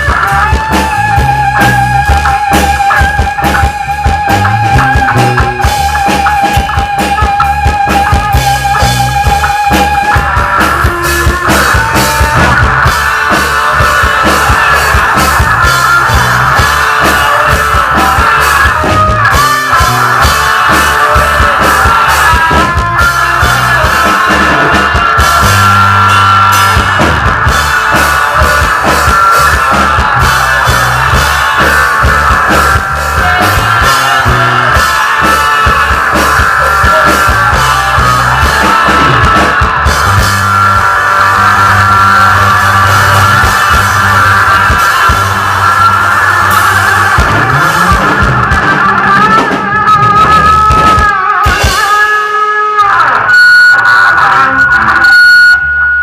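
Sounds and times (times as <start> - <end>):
drum kit beats: 0.0 - 56.0
electric guitar: 0.0 - 56.0.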